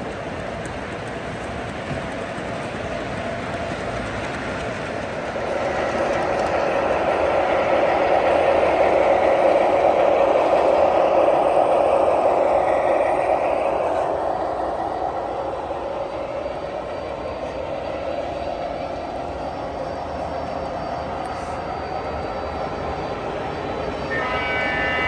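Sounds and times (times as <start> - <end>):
model train rolling on track: 0.0 - 25.0.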